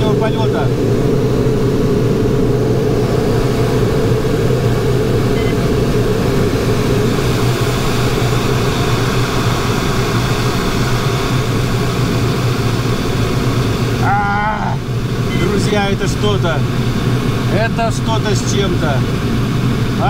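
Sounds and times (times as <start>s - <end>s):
rush of airflow in cockpit: 0.0s - 20.0s.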